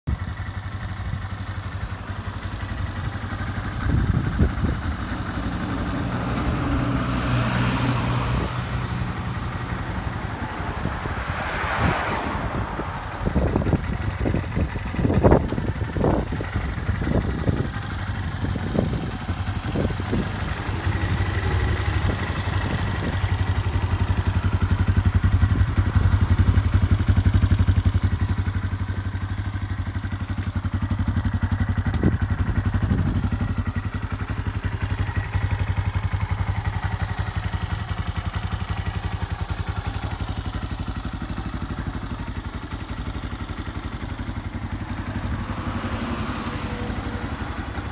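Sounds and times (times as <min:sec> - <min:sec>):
motorcycle engine idling: 0:00.1 - 0:47.9.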